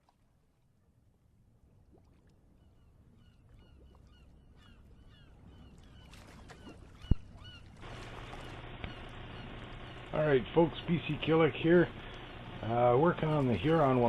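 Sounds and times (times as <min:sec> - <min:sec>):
birds calling: 0:02.5 - 0:14.0.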